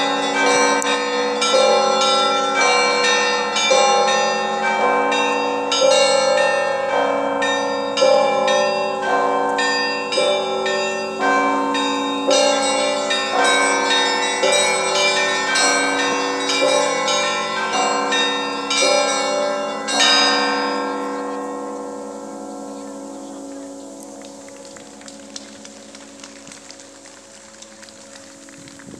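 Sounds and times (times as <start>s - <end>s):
small bells chiming: 0.0s - 25.0s
church bells ringing: 0.0s - 28.3s.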